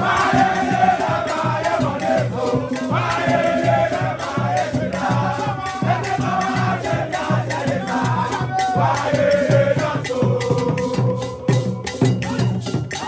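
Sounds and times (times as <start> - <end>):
upbeat music with shaker percussion: 0.0 - 13.0.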